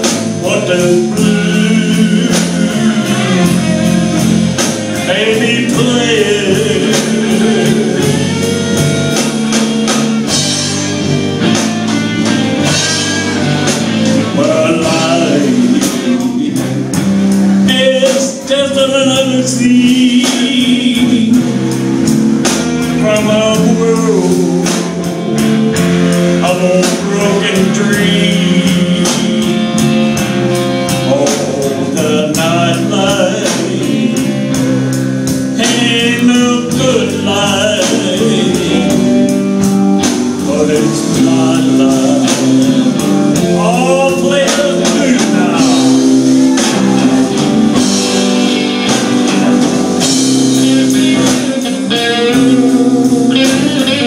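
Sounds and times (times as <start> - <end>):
man singing lead: 0.0 - 10.7, 11.5 - 54.0
live rock band: 0.0 - 54.0.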